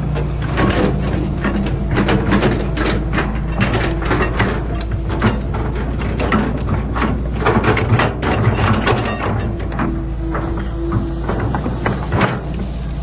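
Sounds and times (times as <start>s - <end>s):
metallic clanks and knocks: 0.0s - 12.8s
diesel engine running: 0.0s - 13.0s.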